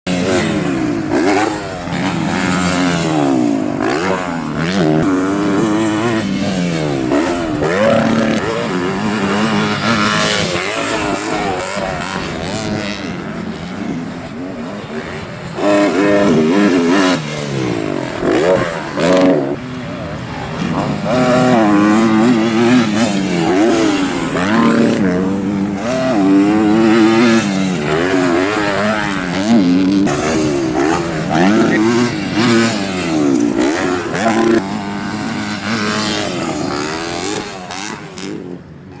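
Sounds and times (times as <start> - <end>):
motocross bikes revving: 0.1 - 39.0.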